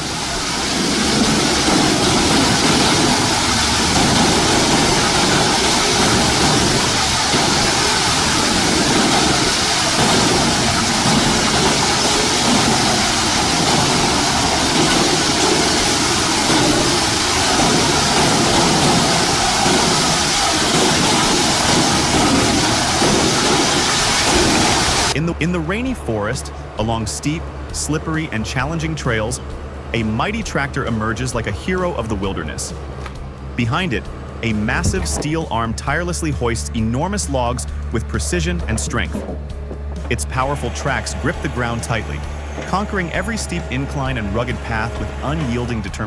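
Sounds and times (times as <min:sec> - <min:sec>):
wood shredder grinding wood: 0:00.0 - 0:46.0.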